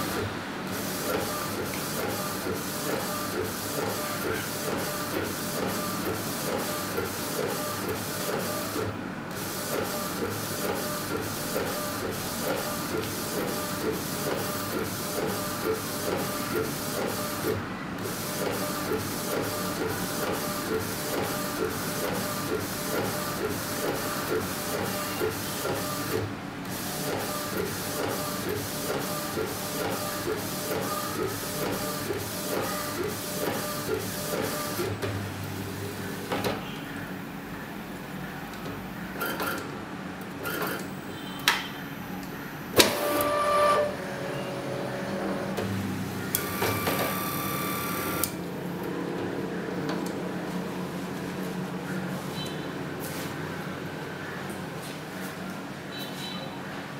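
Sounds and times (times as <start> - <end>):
inkjet printer whirring and ticking: 0.0 - 35.2, 38.0 - 41.5, 42.1 - 49.0.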